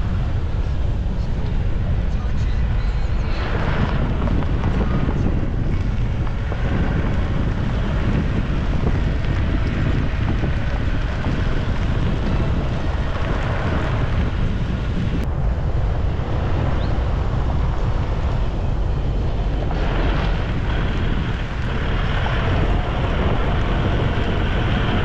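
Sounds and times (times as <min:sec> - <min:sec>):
truck rumbling on gravel: 0:00.0 - 0:25.0
wind buffeting microphone: 0:00.0 - 0:25.0.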